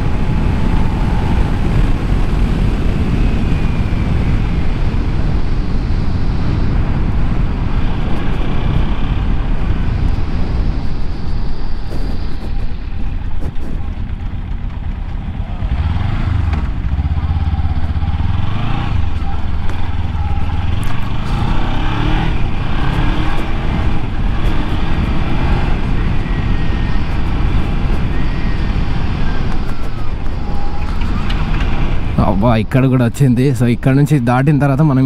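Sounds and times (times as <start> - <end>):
motorcycle engine revving: 0.0 - 11.2, 11.8 - 32.2.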